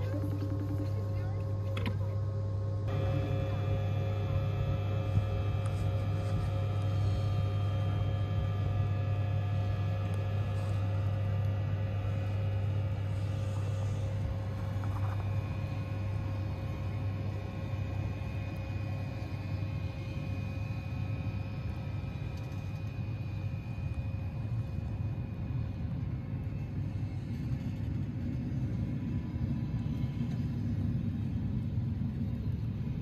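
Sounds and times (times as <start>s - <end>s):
electric locomotive humming: 0.0s - 33.0s
electrical whining tones: 0.0s - 33.0s.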